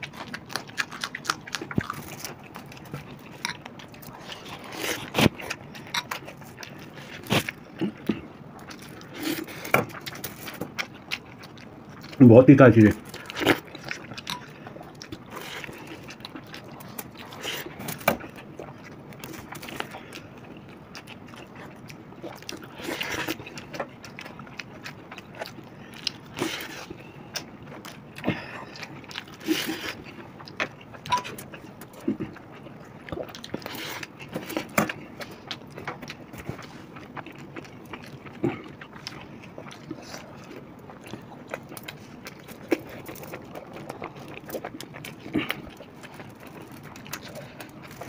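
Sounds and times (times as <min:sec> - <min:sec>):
people chewing food: 0:00.0 - 0:48.0.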